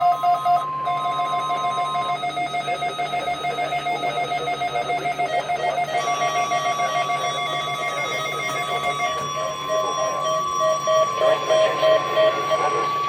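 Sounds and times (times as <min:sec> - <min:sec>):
rapidly pulsing beeping tone: 0:00.0 - 0:13.0
steady electronic alert tone: 0:00.0 - 0:13.0.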